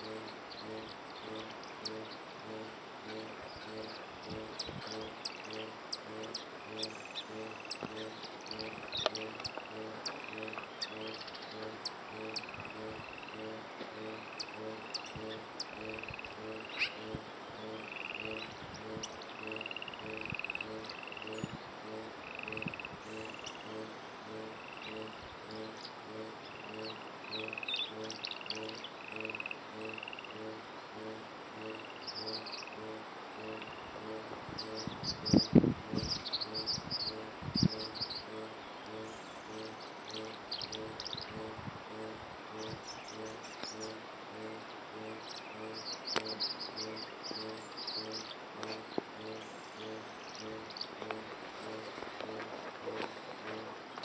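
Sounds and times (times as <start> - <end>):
high buzzy trill: 0.0 - 53.8
bird chirps: 0.0 - 54.0
low pulsing frog call: 0.0 - 54.0.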